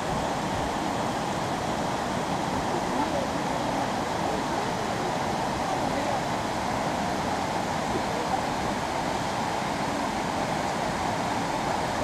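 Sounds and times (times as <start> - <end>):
shallow stream: 0.0 - 12.0
waterfall rushing: 0.0 - 12.0.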